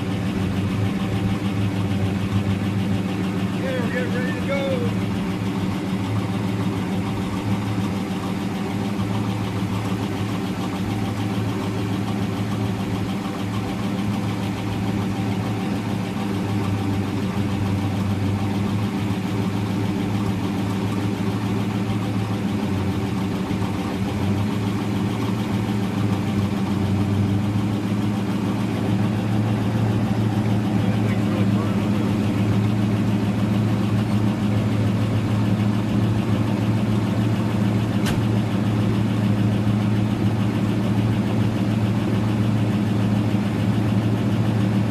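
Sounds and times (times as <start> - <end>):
car engine humming: 0.0 - 44.9.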